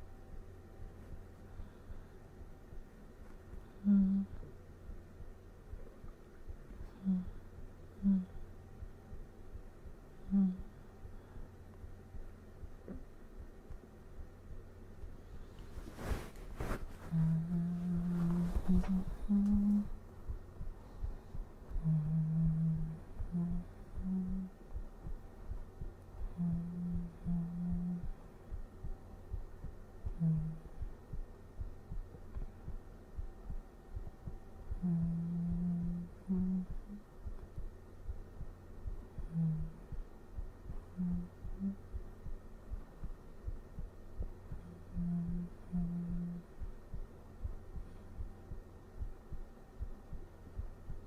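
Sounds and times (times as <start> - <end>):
person humming a lullaby: 0.0 - 13.6, 15.0 - 49.5
heartbeat thumping: 0.0 - 51.0.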